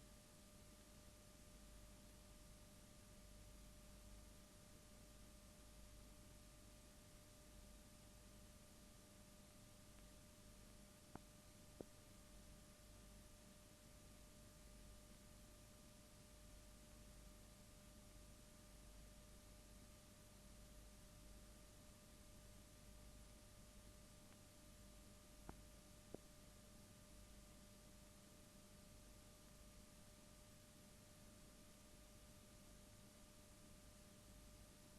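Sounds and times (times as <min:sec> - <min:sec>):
faint hum: 0:00.0 - 0:34.9.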